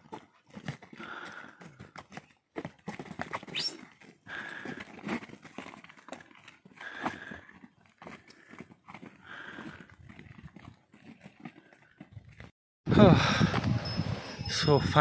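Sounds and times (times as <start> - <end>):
hooves clopping on stones: 0.0 - 12.5.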